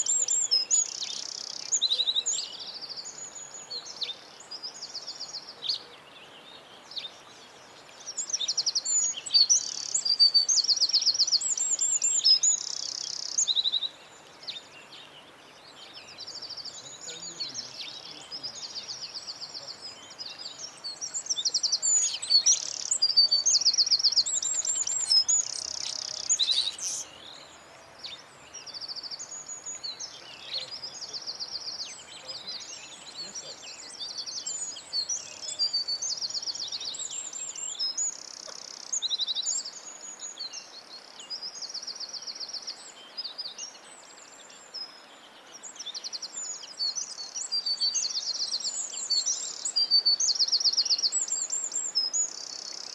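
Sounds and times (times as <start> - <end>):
songbirds singing and chirping: 0.0 - 52.9.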